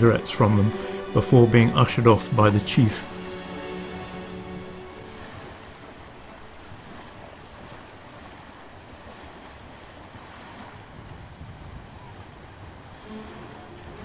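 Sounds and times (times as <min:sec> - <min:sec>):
sea waves: 0:00.0 - 0:14.0
wind: 0:00.0 - 0:14.0.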